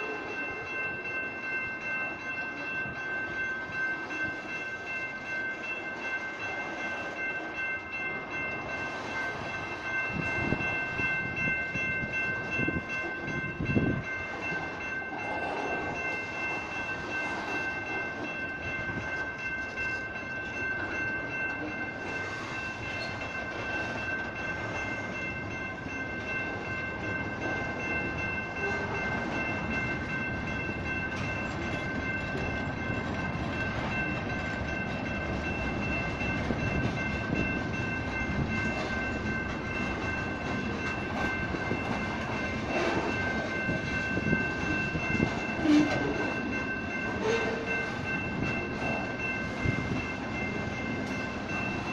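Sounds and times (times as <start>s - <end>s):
electronic crossing bells ringing: 0.0s - 51.9s.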